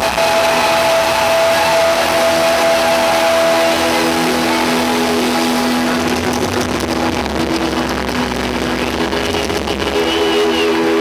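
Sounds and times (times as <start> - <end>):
crowd noise: 0.0 - 11.0.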